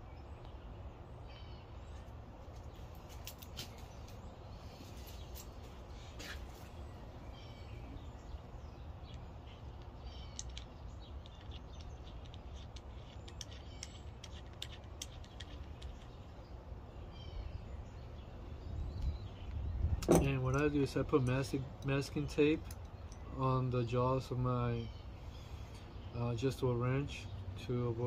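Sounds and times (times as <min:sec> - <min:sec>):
low outdoor rumble: 0:00.0 - 0:28.0
small birds chirping: 0:00.0 - 0:28.0.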